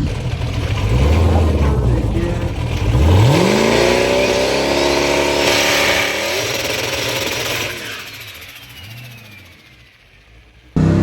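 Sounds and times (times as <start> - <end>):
drag car engine accelerating: 0.0 - 11.0.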